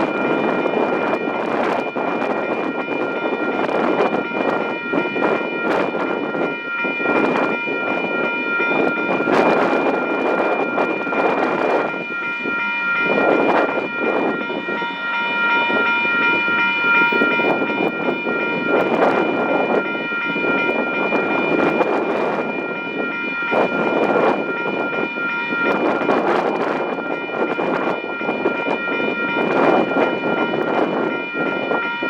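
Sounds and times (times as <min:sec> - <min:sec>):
high-pitched ringing tones: 0:00.0 - 0:32.0
wind buffeting microphone: 0:00.0 - 0:32.0.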